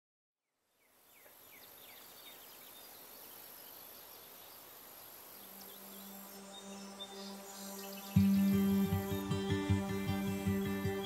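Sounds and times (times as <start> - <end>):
soft hiss: 0.6 - 11.0
bird chirps: 0.8 - 11.0.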